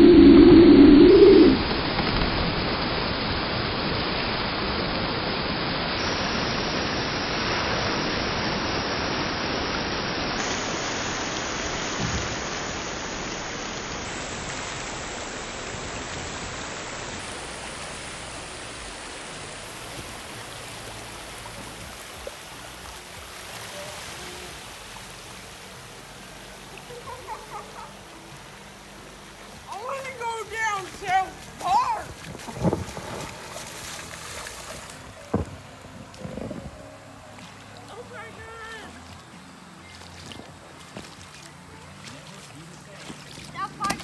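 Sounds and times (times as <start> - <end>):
water rushing out: 0.0 - 44.0.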